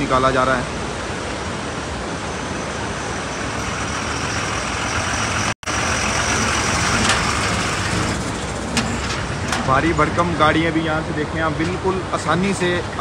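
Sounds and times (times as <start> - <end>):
truck engines running: 0.0 - 13.0
water rushing from spillway: 0.0 - 13.0.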